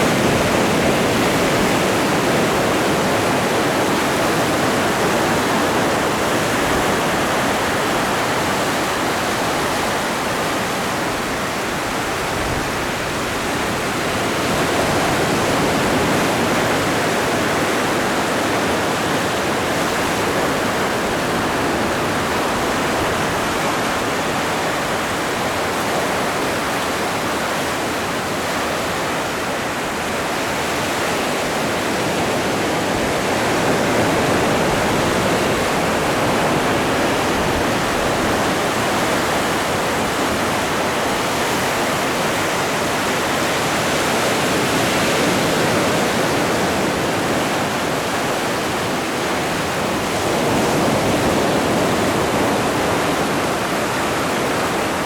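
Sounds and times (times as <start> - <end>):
ocean surf rushing: 0.0 - 55.0.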